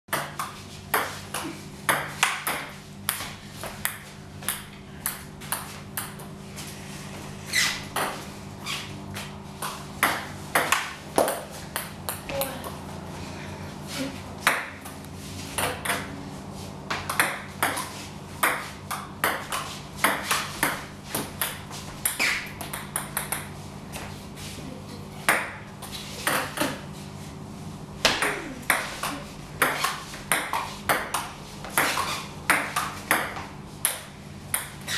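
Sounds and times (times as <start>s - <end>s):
steady low hum: 0.1s - 34.9s.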